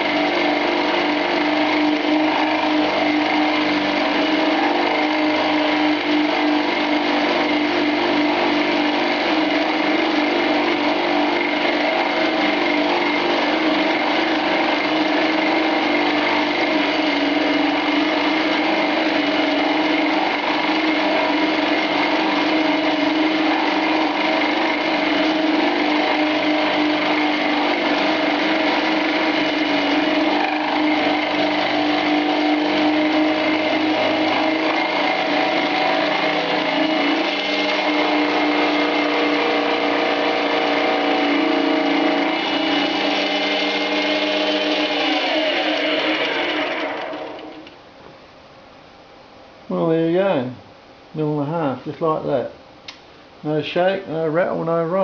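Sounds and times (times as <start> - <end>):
metal cutting noise: 0.0 - 47.7
lathe whine: 0.0 - 48.0.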